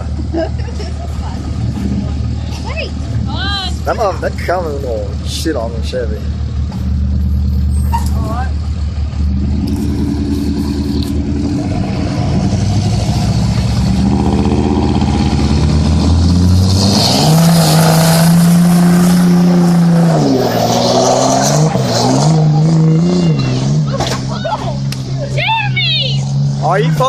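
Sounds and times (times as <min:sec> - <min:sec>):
truck engines revving hard: 0:00.0 - 0:27.0.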